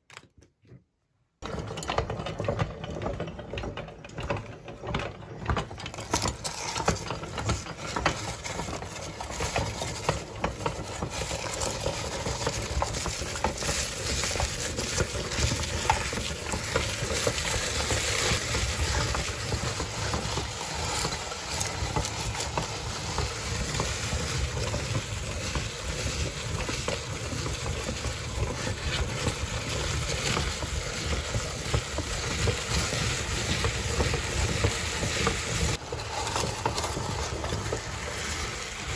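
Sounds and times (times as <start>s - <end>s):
meat grinder crunching snacks: 1.4s - 38.9s.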